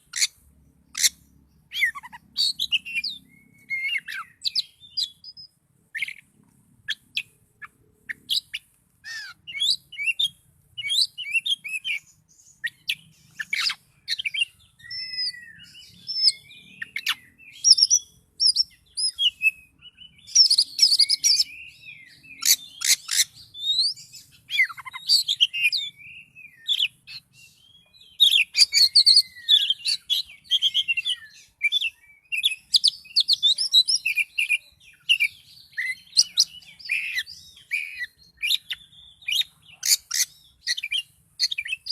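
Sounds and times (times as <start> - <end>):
bird singing: 0.0 - 41.9.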